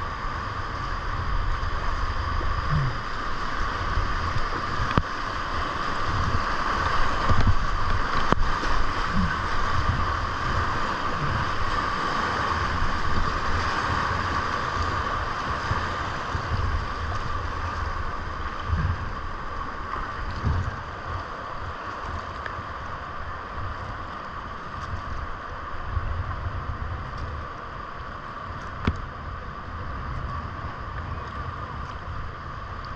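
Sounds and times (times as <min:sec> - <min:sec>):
whitewater rushing: 0:00.0 - 0:32.8
wind rumbling on microphone: 0:00.0 - 0:32.9.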